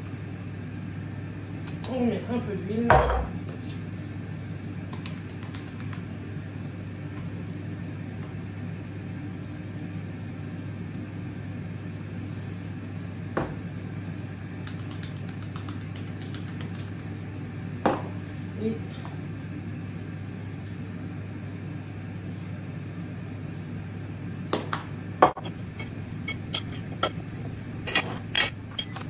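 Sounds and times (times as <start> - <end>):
air fryer fan humming: 0.0 - 29.0.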